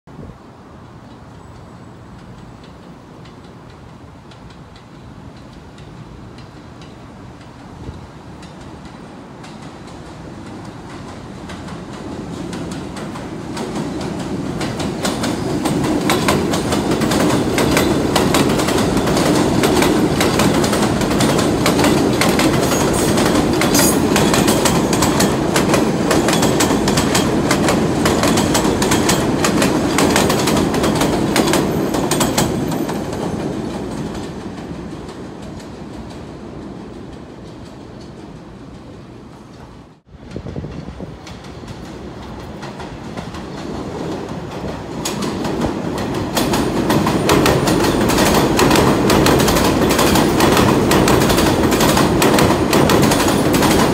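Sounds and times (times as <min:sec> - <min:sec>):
subway train passing: 0:00.1 - 0:53.9
train wheels clicking on rail joints: 0:00.8 - 0:53.9.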